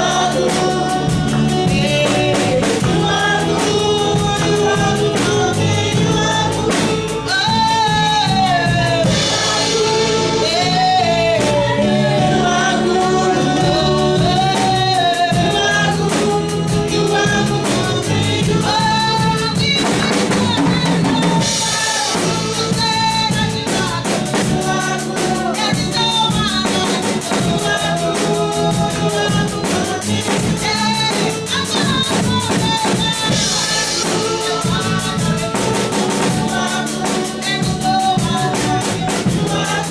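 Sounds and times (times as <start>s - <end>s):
drum kit beat: 0.0s - 39.9s
singers over a band: 0.0s - 39.9s.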